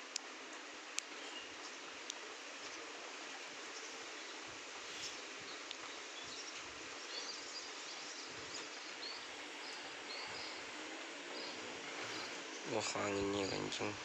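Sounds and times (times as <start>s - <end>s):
rain: 0.0s - 14.0s.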